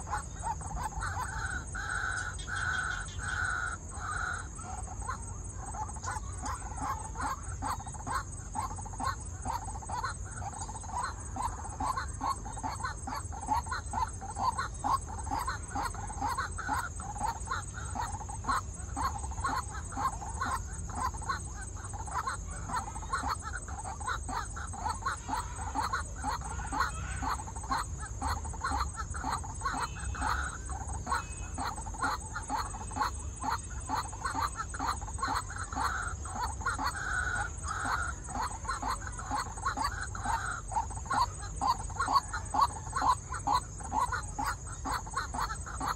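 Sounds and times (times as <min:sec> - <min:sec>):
waterhens calling: 0:00.0 - 0:45.9.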